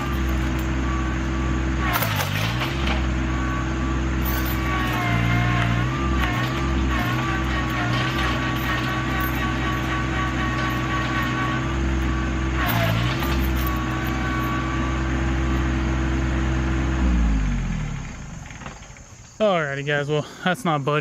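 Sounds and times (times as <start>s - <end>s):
tractor engine straining: 0.0s - 21.0s.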